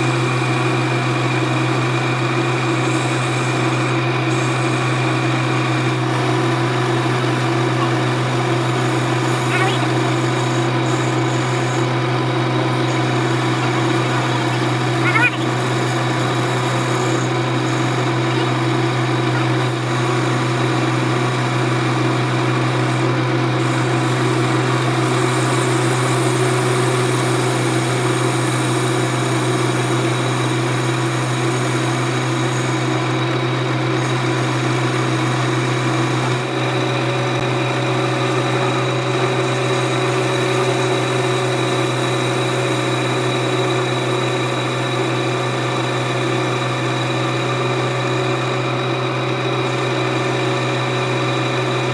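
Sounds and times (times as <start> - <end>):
lathe motor humming: 0.0 - 51.9.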